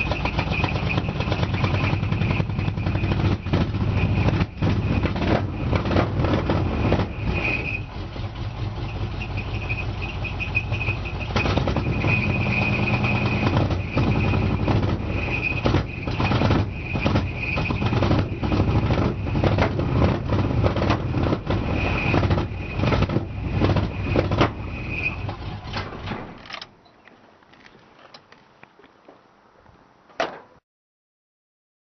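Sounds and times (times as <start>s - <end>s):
engine idling: 0.0s - 26.5s.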